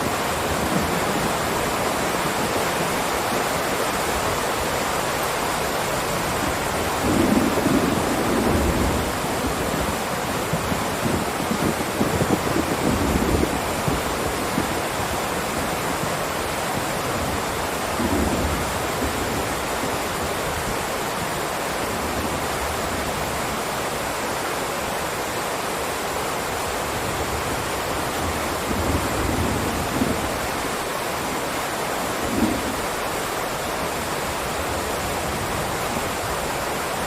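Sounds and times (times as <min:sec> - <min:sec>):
heavy rain hissing: 0:00.0 - 0:37.0.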